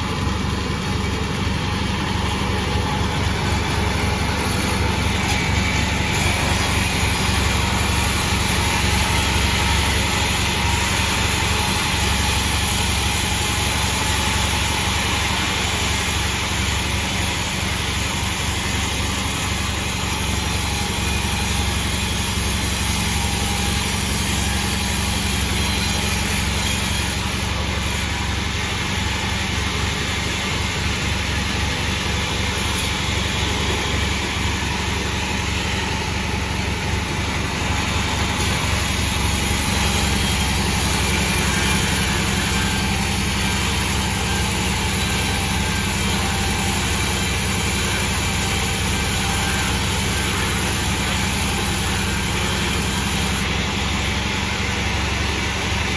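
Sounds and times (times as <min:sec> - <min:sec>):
sawmill engine drone: 0:00.0 - 0:55.9.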